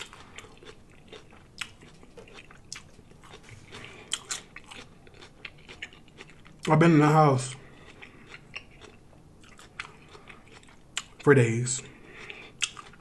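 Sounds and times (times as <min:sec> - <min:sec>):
man chewing with lip smacks: 0:00.0 - 0:06.7, 0:07.6 - 0:11.3, 0:12.0 - 0:13.0.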